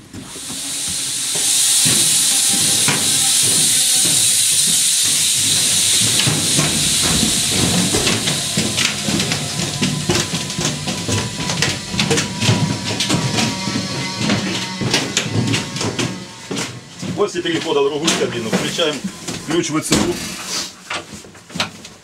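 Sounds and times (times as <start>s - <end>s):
low rumble: 0.0s - 20.4s
loud steady hiss: 0.0s - 20.8s
footsteps: 0.0s - 21.5s.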